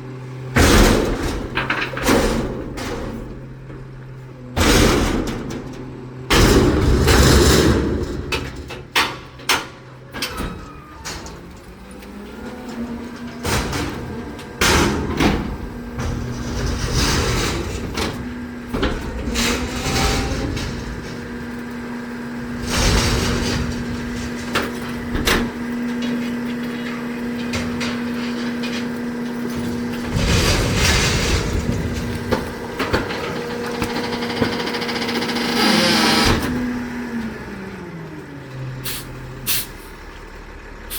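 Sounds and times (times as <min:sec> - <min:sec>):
hydraulic hum: 0:00.0 - 0:40.9
metal bangs and clanks: 0:00.6 - 0:36.9.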